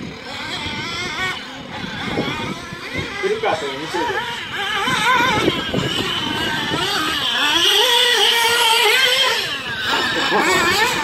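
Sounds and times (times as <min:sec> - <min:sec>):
rc car engine revving: 0:00.0 - 0:11.0.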